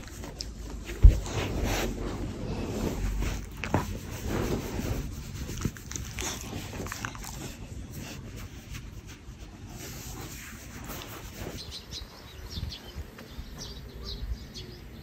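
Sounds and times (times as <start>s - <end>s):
rustling of fur and bedding: 0.0s - 13.8s.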